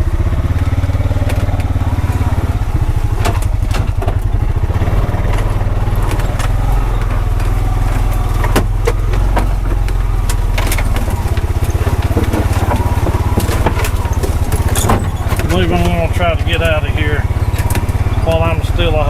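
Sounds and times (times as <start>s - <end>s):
engine running at low speed: 0.0s - 19.0s
sharp knocks and rattles: 0.0s - 19.0s.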